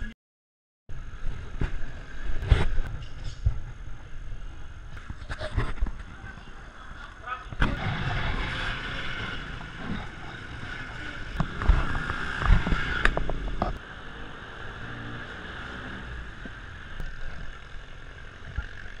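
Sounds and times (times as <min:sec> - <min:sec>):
muffled street and traffic noise: 0:00.9 - 0:19.0.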